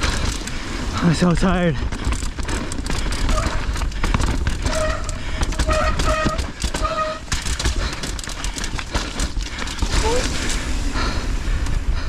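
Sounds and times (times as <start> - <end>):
bike rattling over rocks: 0.0 - 11.9.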